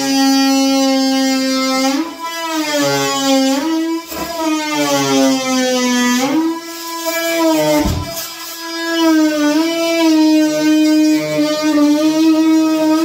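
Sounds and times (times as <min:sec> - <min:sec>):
oscillating multi-tool cutting wood: 0:00.0 - 0:13.0.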